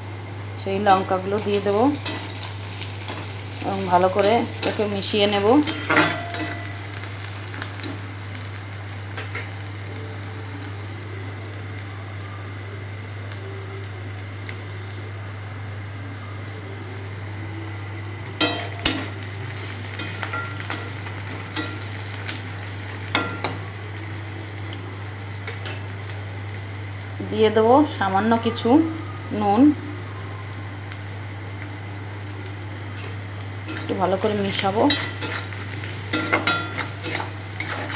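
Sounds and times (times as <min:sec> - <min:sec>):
onions sizzling in hot oil: 0:00.6 - 0:37.9.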